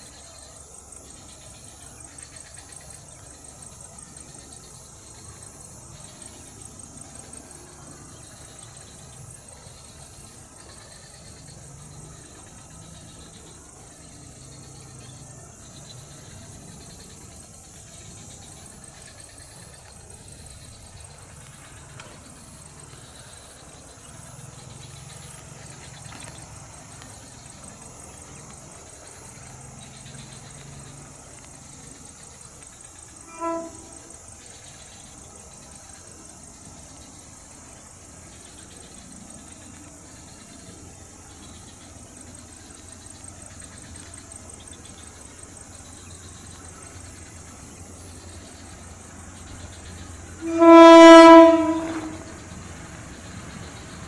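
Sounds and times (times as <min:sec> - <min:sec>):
distant diesel locomotive engines humming: 0:00.0 - 0:54.0
high-pitched hiss: 0:00.0 - 0:54.0.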